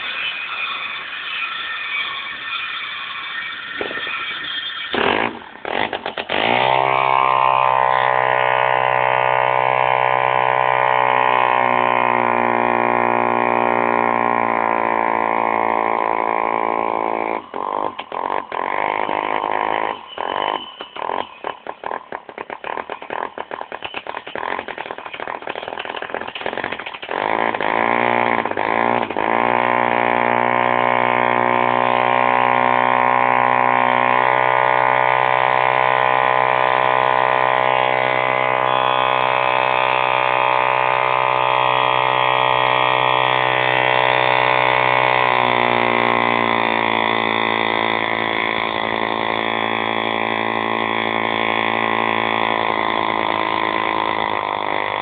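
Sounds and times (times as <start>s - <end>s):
diesel engine sputtering and running: 1.9s - 55.0s.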